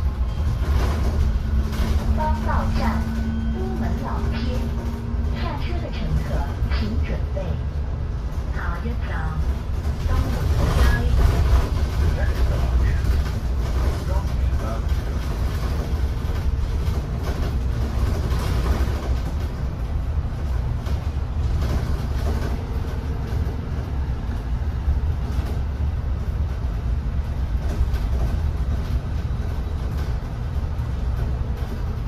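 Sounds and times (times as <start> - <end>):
bus road rumble: 0.0 - 32.0.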